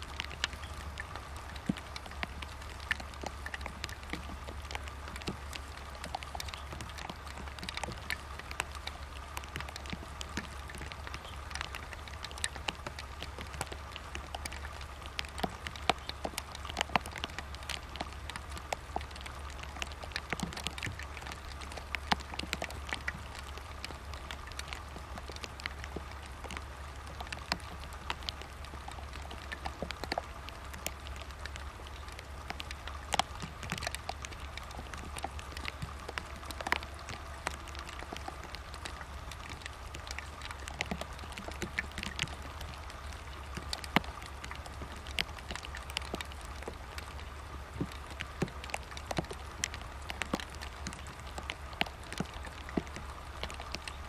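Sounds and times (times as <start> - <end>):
small ticks and clicks: 0.0 - 54.0.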